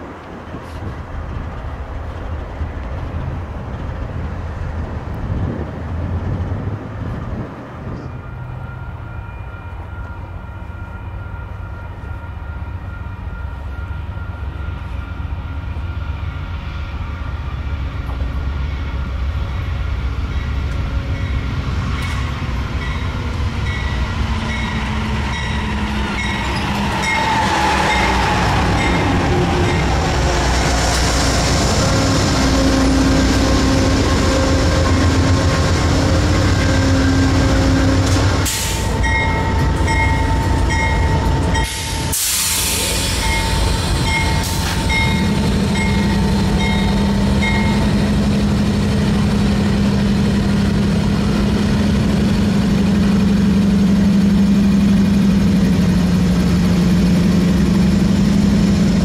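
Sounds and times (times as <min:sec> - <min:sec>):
diesel train rumble: 0:00.0 - 0:59.0.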